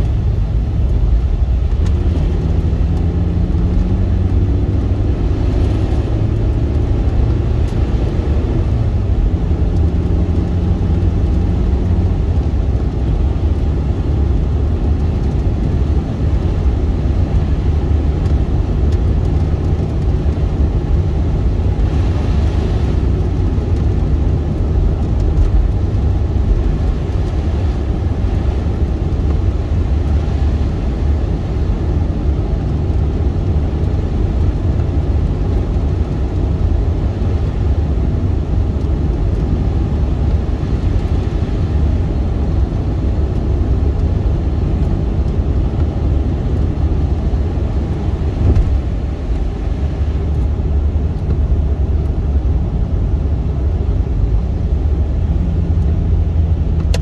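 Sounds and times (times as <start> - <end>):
faint engine hum: 0.0 - 57.0
road and engine rumble in car cabin: 0.0 - 57.0.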